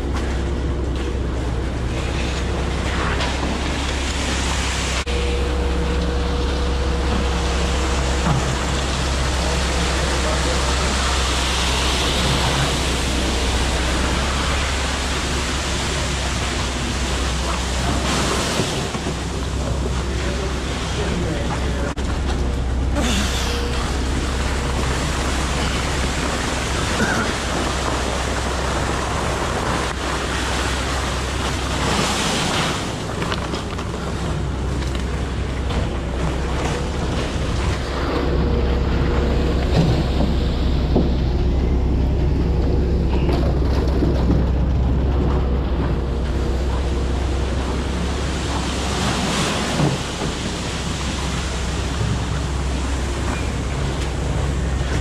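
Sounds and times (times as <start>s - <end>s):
diesel engine running: 0.0s - 55.0s
wet concrete rushing down chute: 0.0s - 55.0s.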